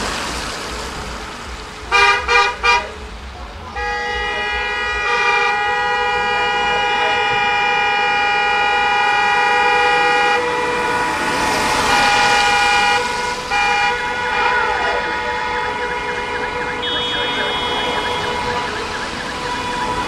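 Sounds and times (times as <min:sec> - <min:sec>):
car horns honking: 0:01.8 - 0:20.0.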